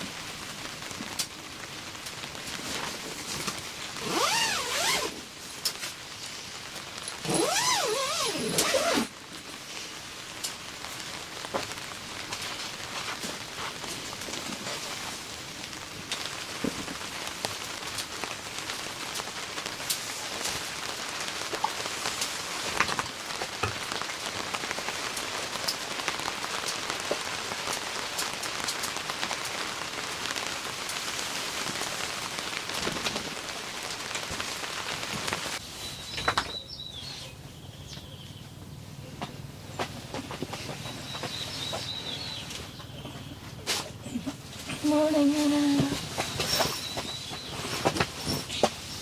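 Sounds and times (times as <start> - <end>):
rain falling: 0.0 - 36.6, 37.7 - 49.0.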